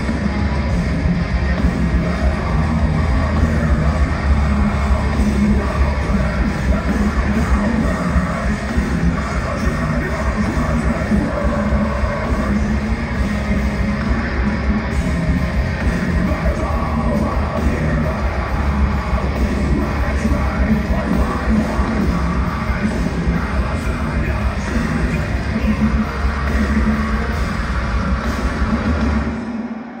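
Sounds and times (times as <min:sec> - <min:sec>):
heavy distorted guitars: 0:00.0 - 0:30.0.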